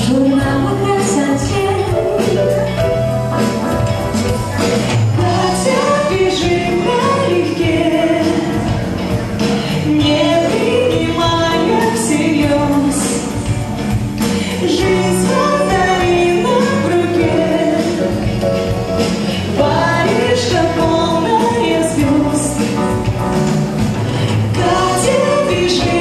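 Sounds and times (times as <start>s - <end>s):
women singing pop song: 0.0s - 2.3s, 5.2s - 18.4s, 19.4s - 23.1s, 24.2s - 26.0s
drum kit with cymbals: 0.0s - 26.0s
keyboard: 0.0s - 26.0s.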